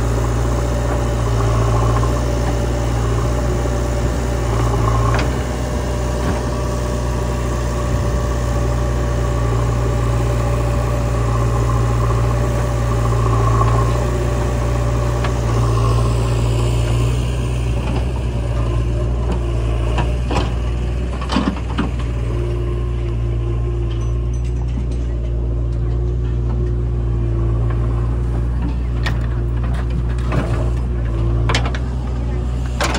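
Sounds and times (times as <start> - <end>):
diesel engines running: 0.0 - 32.9.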